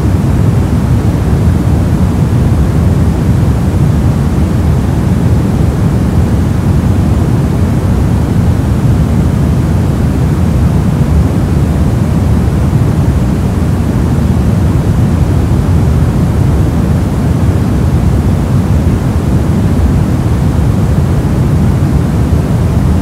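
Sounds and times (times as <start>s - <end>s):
deep even hiss-rumble: 0.0s - 23.0s.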